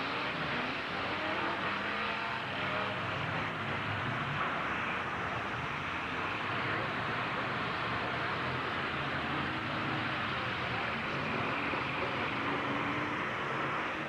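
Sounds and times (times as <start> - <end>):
truck engines running: 0.0 - 14.0.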